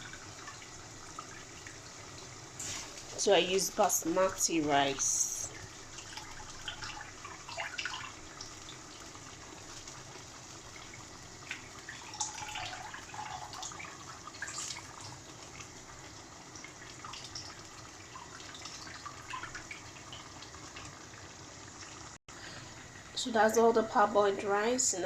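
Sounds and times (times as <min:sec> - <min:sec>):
pot of sauce bubbling: 0:00.0 - 0:23.2.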